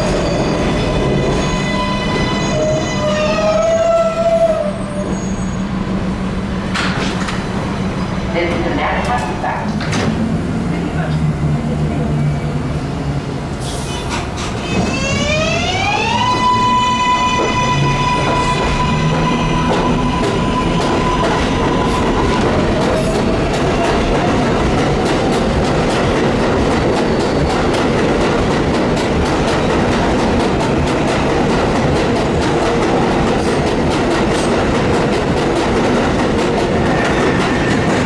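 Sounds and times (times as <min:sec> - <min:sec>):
subway train propulsion whine: 0:00.0 - 0:38.0
train running rumble: 0:00.0 - 0:38.0.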